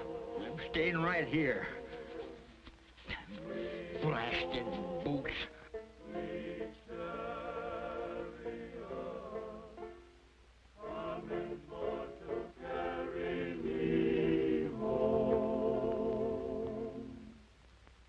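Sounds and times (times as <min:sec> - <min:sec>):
choir singing in harmony: 0:00.0 - 0:02.6, 0:03.2 - 0:10.0, 0:10.8 - 0:17.4.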